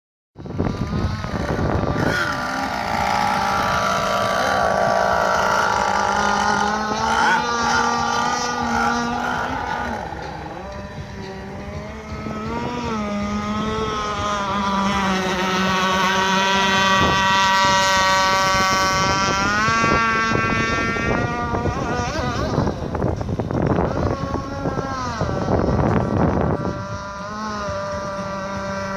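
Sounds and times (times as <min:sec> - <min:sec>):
model boat engine running: 0:00.4 - 0:28.9.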